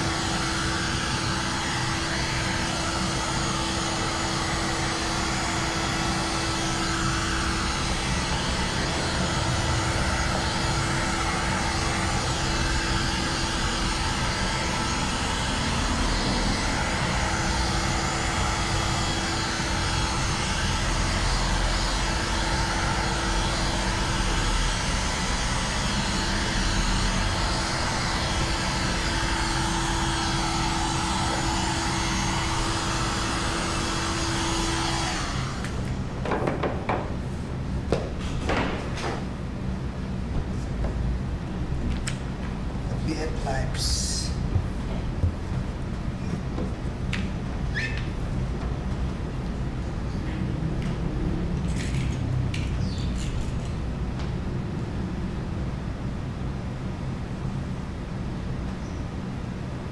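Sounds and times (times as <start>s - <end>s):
heat gun fan blowing: 0.0s - 59.9s.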